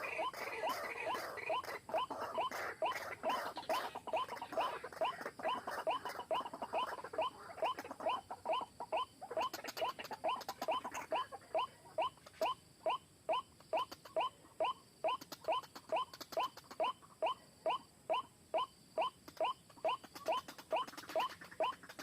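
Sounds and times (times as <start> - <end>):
waterhen calling: 0.0 - 18.3, 19.0 - 22.0.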